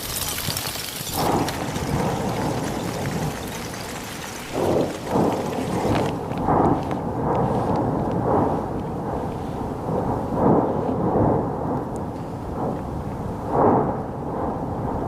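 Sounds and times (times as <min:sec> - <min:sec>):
deep rumbles: 0:01.1 - 0:15.0
steady rushing noise: 0:01.1 - 0:15.0.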